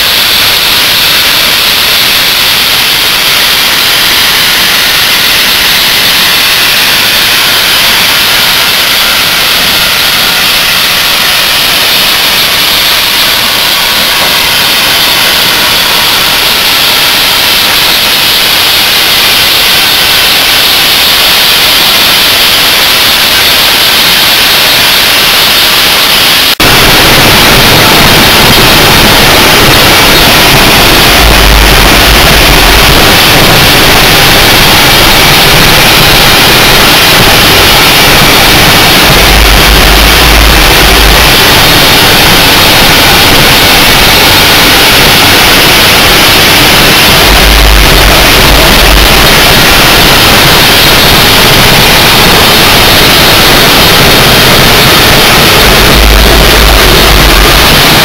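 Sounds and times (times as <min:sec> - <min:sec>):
steam locomotive roar and hiss: 0:00.0 - 0:58.0.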